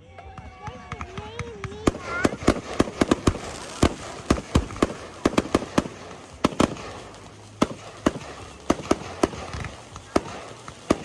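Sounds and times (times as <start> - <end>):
fireworks bangs: 0.5 - 11.0.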